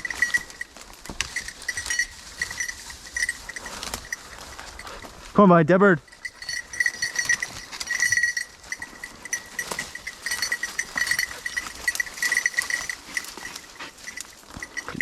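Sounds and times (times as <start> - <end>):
brush rustling: 0.0 - 5.4, 6.0 - 15.0
dog collar bell jingling: 0.0 - 15.0.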